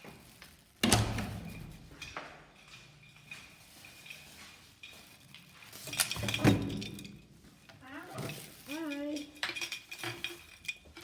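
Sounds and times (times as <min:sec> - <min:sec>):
household items clattering: 0:00.0 - 0:11.0.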